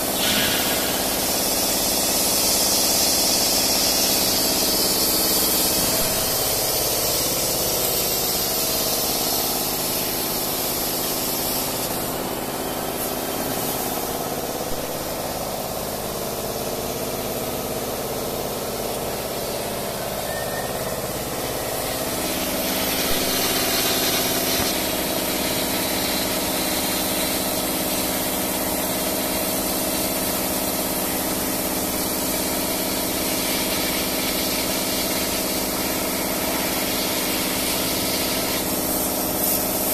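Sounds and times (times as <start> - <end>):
hiss of air: 0.0 - 39.9
laser cutter mechanical hum: 0.1 - 15.5, 19.0 - 36.0.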